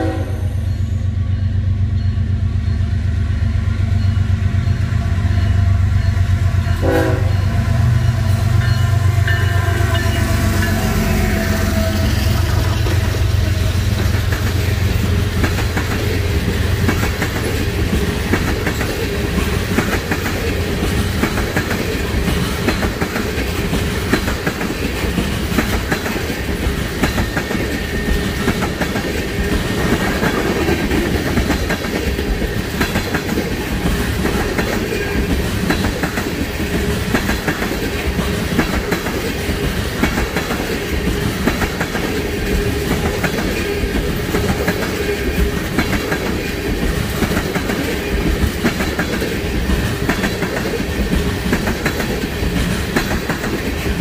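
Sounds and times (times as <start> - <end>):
diesel locomotive engine drone: 0.0 - 54.0
train wheels clattering on rails: 0.8 - 54.0.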